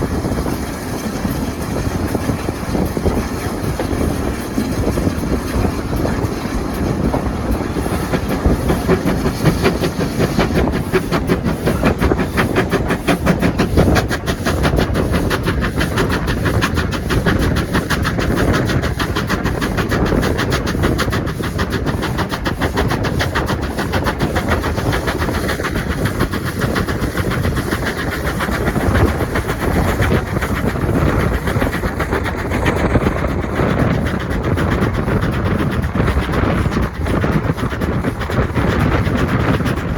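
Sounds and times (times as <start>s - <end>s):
train clattering along track: 0.0s - 39.9s.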